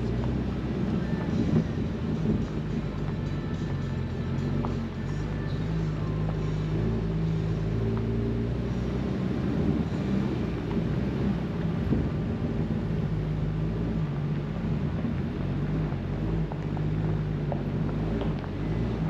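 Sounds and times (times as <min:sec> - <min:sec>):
road rumble: 0:00.0 - 0:19.0
vehicle engine running: 0:00.0 - 0:19.0.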